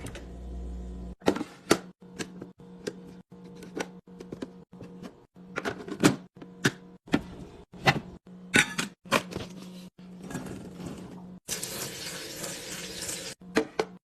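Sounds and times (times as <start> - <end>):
refrigerator hum: 0.0 - 12.4.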